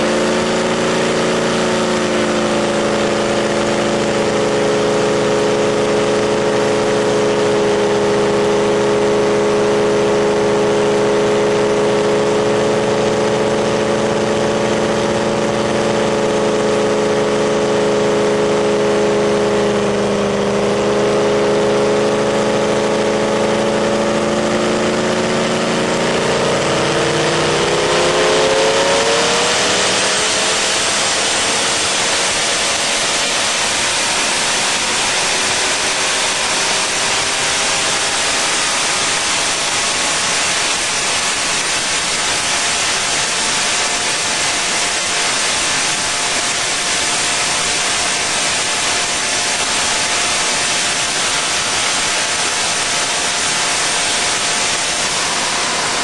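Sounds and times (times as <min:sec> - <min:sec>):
boat engine revving: 0:00.0 - 0:56.0.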